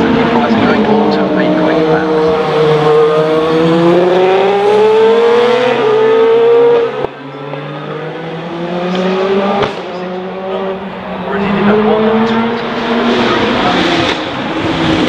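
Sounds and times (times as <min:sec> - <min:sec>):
distant car accelerating: 0:00.0 - 0:15.0
race car engines accelerating: 0:00.0 - 0:15.0.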